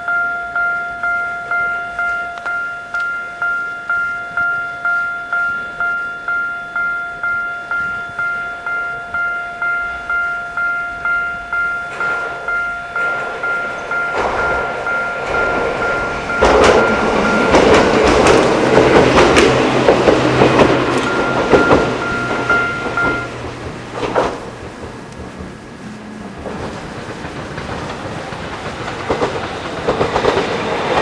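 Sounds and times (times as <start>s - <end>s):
level-crossing warning bell ringing: 0.0s - 29.5s
train rumbling past: 0.0s - 31.0s
train wheel clicks: 0.0s - 31.0s.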